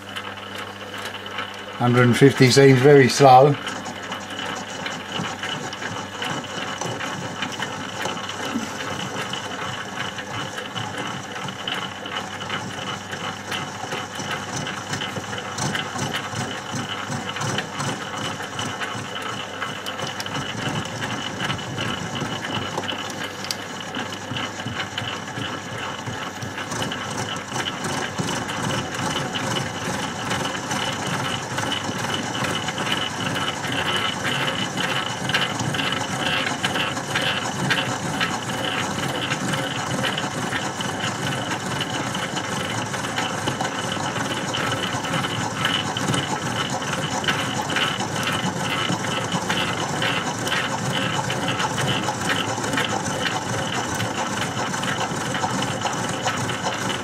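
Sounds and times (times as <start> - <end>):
milling machine running: 0.0 - 57.0.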